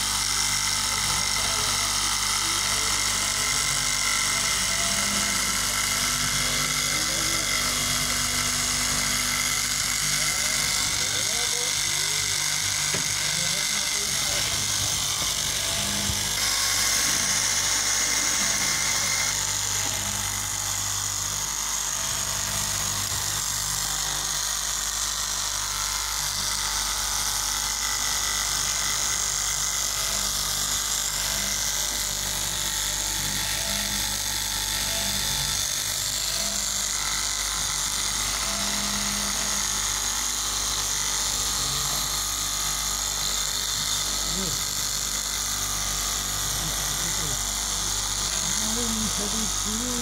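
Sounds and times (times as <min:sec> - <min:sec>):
cloth cutting machine running: 0:00.0 - 0:50.0.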